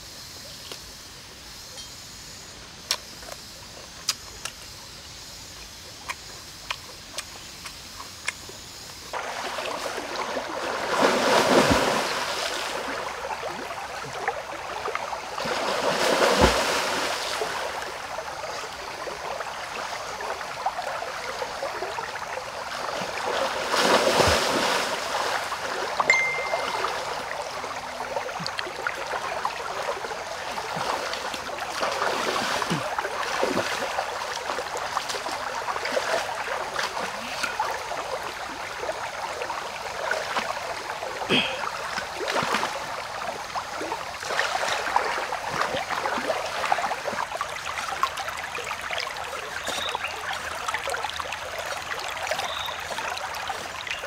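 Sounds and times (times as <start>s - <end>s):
shallow stream running: 0.0s - 54.0s
person wading through water: 9.1s - 54.0s.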